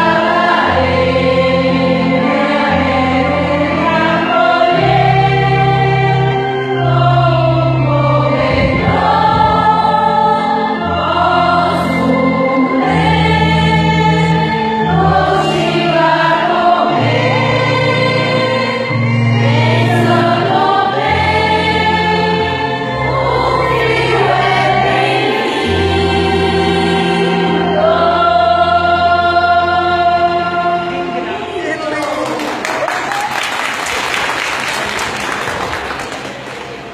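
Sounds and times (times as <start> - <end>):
gospel choir singing in harmony: 0.0 - 33.5
held bass notes: 2.4 - 32.0.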